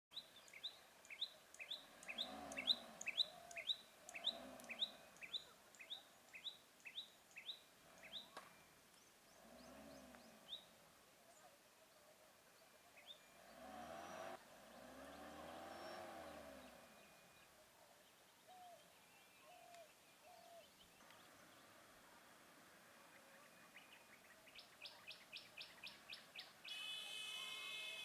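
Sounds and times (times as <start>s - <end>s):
bird chirping: 0.1s - 22.0s, 22.6s - 28.0s
faint low hum: 0.3s - 26.6s.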